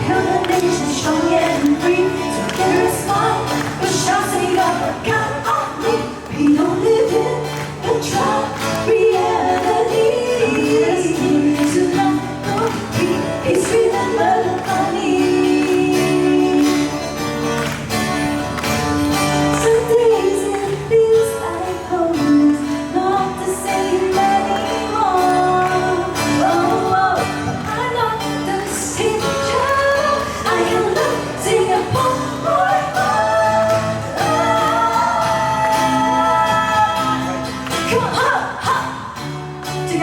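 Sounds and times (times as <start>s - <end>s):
person singing: 0.0s - 17.2s, 19.6s - 40.0s
live band playing pop song: 0.0s - 40.0s.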